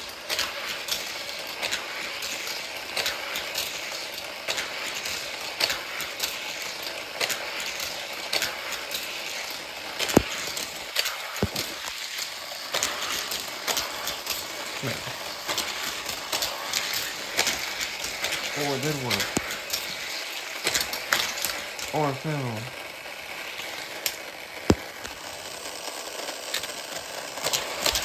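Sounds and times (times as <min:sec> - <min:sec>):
toy cars clattering on track: 0:00.0 - 0:21.9, 0:22.8 - 0:28.0
toy track motor whirring: 0:00.0 - 0:22.0, 0:22.6 - 0:28.0.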